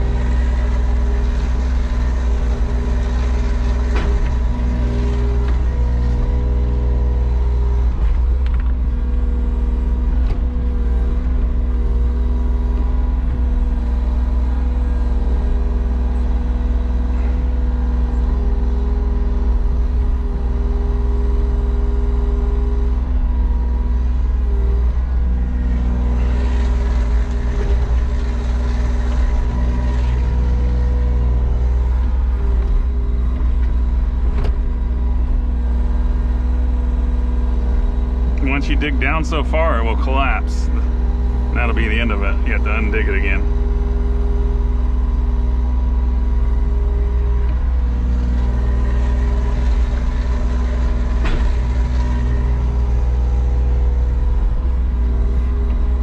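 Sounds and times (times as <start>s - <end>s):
excavator digging sand: 0.0s - 44.3s, 44.9s - 56.0s
excavator engine running: 0.0s - 56.0s
humming tones: 0.0s - 56.0s.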